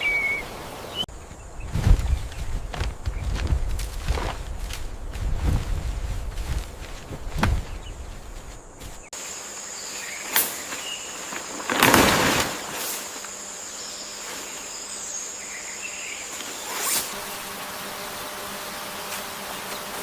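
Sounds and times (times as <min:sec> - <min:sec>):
background hiss: 0:00.0 - 0:20.0
insects trilling: 0:00.0 - 0:20.0.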